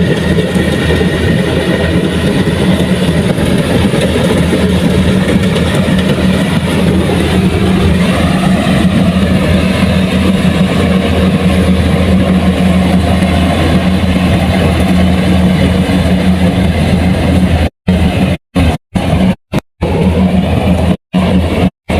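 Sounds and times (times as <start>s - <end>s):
diesel engine droning: 0.0s - 21.9s.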